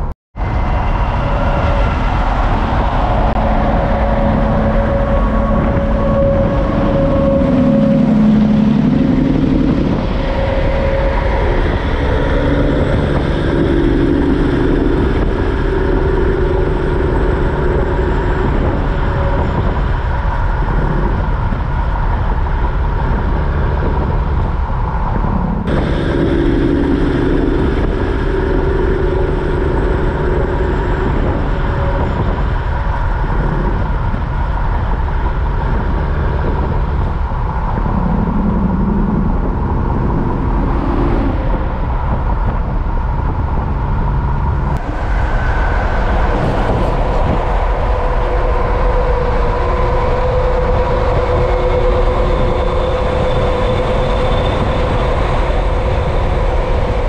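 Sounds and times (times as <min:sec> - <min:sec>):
diesel truck engines: 0:00.0 - 0:57.0
tyre and road noise: 0:00.0 - 0:57.0.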